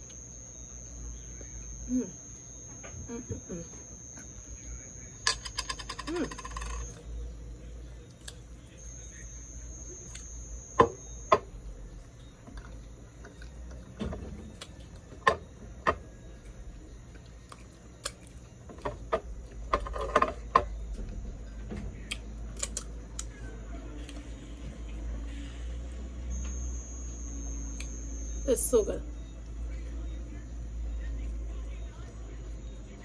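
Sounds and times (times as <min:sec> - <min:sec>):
faint high-pitched tone: 0:00.0 - 0:22.5, 0:23.2 - 0:33.0
low steady hum: 0:00.0 - 0:33.0.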